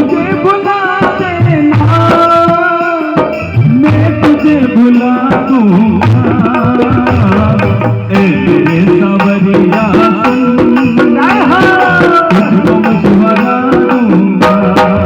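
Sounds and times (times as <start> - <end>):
hand drum rhythm: 0.0 - 15.0
instrumental melody line: 0.0 - 15.0.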